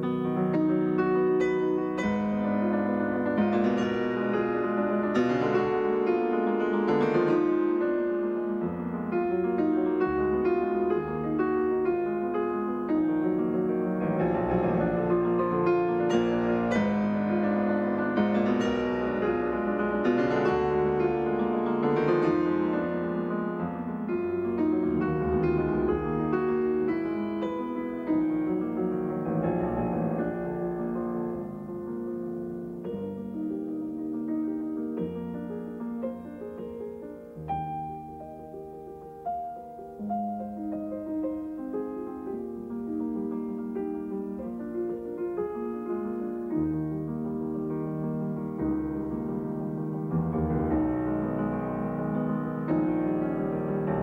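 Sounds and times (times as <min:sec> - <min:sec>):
slow gentle piano music: 0:00.0 - 0:54.0.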